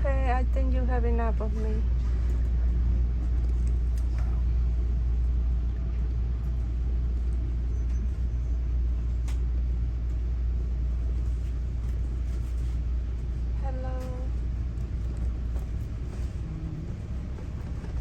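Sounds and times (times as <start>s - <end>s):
train rumble inside passenger car: 0.0s - 18.0s.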